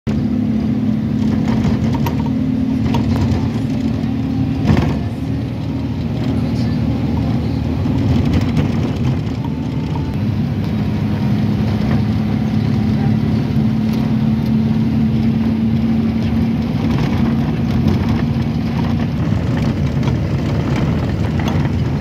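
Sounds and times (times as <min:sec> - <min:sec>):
car road and engine drone: 0:00.0 - 0:22.0.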